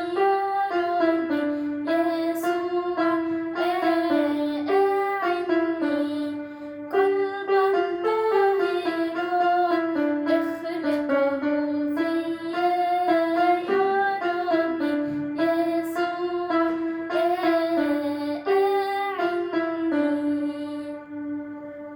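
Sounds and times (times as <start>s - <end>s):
girl singing a hymn: 0.0s - 21.9s
keyboard accompaniment: 0.0s - 21.9s.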